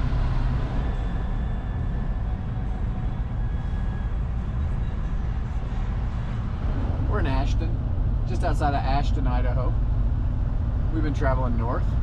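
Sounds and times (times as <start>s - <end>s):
van engine and road drone: 0.0s - 12.0s.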